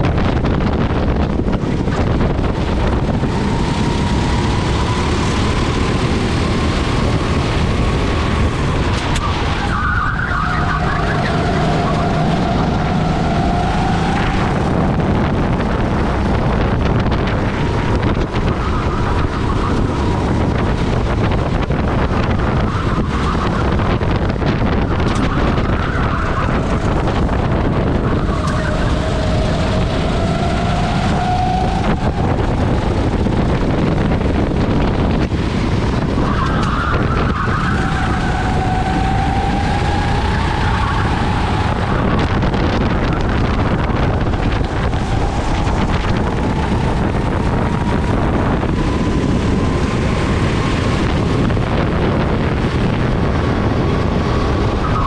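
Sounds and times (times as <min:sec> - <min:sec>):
kart engine accelerating: 0:00.0 - 0:55.0
wind rumble on microphone: 0:00.0 - 0:55.0.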